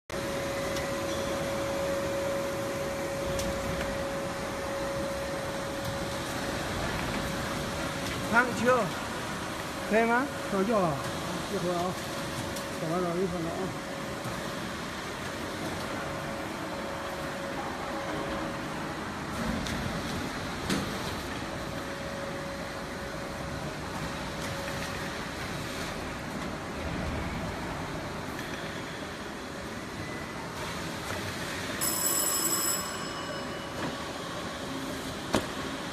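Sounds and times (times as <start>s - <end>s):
machine humming with faint whine: 0.1s - 35.9s.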